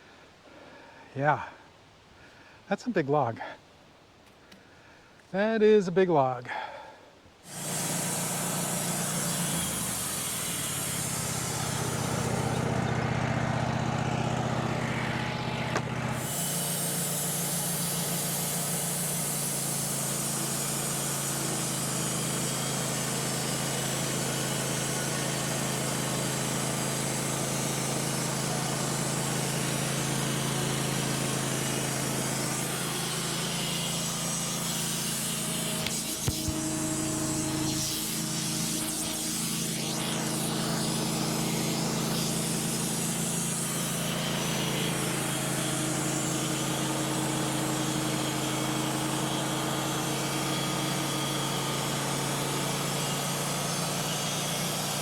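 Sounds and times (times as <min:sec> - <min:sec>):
saw blade cutting log: 0:07.4 - 0:55.0
sawmill engine running: 0:07.5 - 0:55.0.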